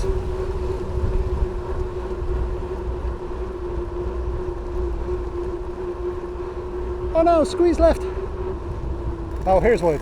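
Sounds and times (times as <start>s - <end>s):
road noise on wet road: 0.0s - 10.0s
wind rumble: 0.0s - 10.0s.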